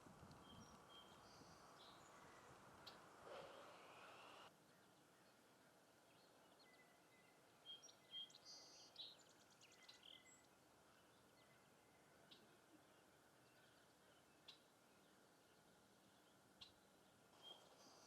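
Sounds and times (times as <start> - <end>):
background hiss: 0.0 - 18.0
small birds chirping: 0.0 - 18.0.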